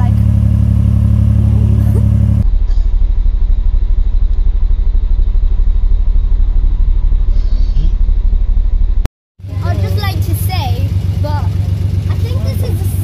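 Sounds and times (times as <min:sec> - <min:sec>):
boat diesel engine throbbing: 0:00.0 - 0:13.0.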